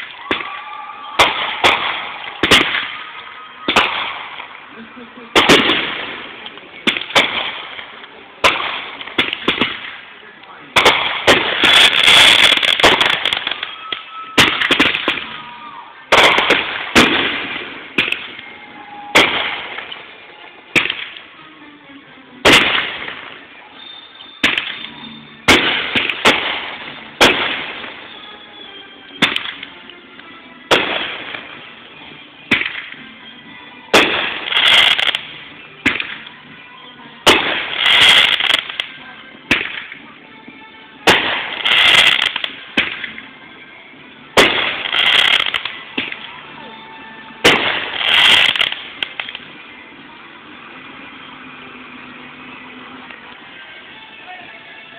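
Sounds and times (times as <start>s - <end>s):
fireworks bursting with echoing bangs: 0.0s - 21.5s, 22.4s - 33.2s, 33.8s - 54.9s.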